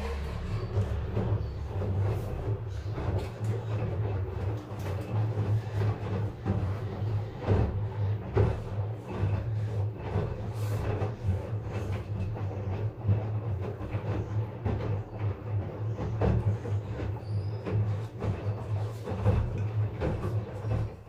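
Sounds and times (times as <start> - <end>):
washing machine knocks and rattles: 0.0 - 21.0
washing machine motor hum: 0.0 - 21.0.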